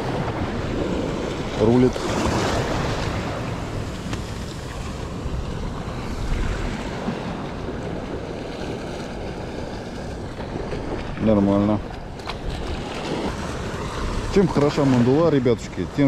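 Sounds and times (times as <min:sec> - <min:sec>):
surf washing: 0:00.0 - 0:16.0
wind buffeting microphone: 0:00.0 - 0:16.0.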